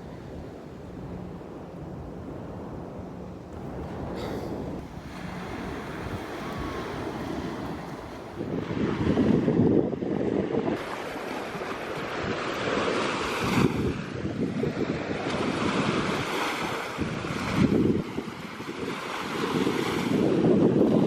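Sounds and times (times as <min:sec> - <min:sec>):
waves breaking on a beach: 0:00.0 - 0:21.0
wind buffeting microphone: 0:00.0 - 0:21.0.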